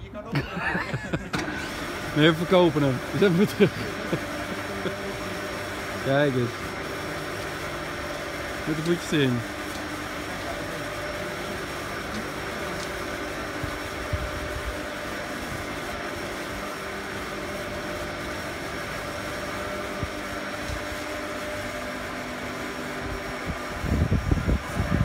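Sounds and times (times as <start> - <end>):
boat hoist mechanical hum: 0.0 - 25.0.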